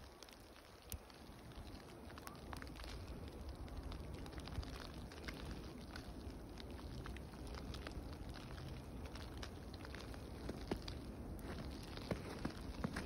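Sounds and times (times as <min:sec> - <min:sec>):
sleet ticking on brush and snow: 0:00.0 - 0:13.0.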